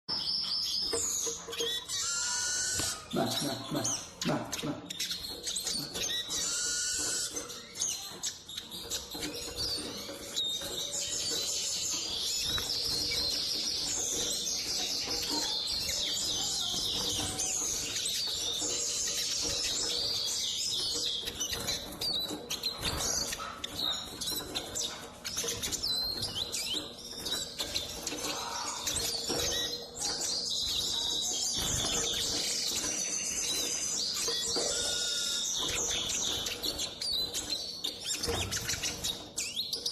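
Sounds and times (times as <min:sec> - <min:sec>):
bird twittering and trilling: 0:00.1 - 0:39.9.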